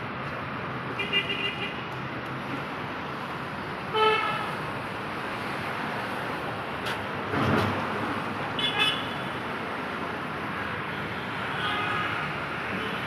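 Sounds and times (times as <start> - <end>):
light street traffic: 0.0 - 13.0.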